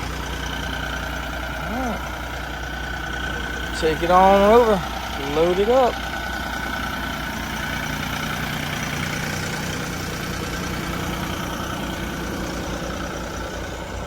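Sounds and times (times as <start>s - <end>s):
stump grinder engine running: 0.0s - 14.0s.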